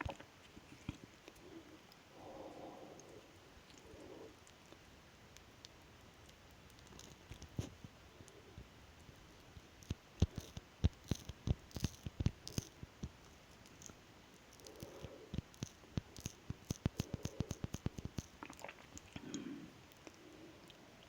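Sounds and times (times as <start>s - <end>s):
wet mouth clicks of chewing: 2.8s - 7.9s, 9.0s - 20.9s.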